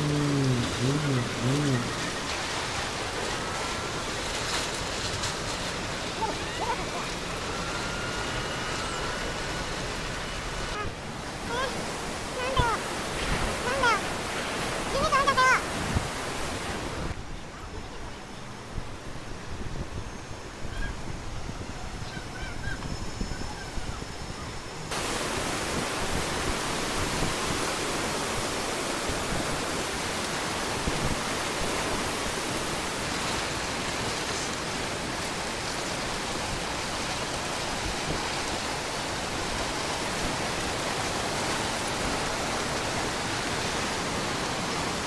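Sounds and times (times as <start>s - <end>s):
floodwater rushing: 0.0s - 17.3s, 24.8s - 45.0s.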